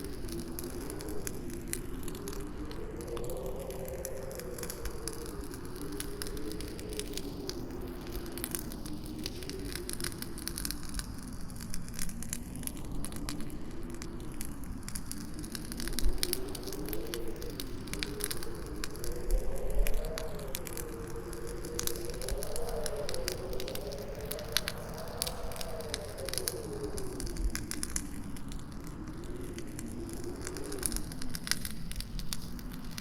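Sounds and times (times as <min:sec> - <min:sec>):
campfire crackling: 0:00.0 - 0:33.0
howling wind: 0:00.0 - 0:33.0.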